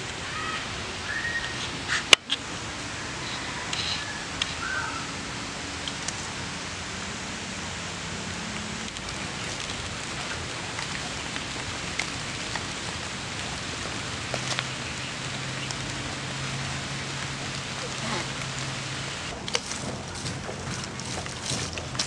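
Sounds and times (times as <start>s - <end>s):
wood fire sizzling and crackling: 0.0s - 22.0s.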